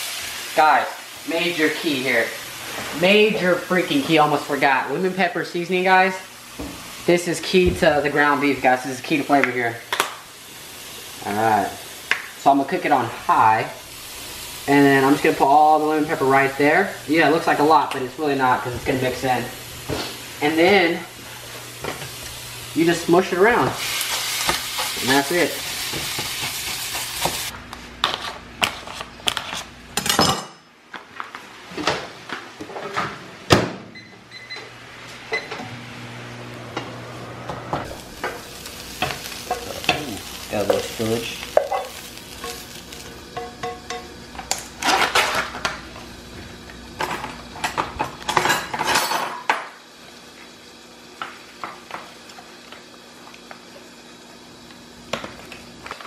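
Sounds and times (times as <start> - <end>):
meat sizzling in a frying pan: 0.0 - 27.6, 37.8 - 56.0.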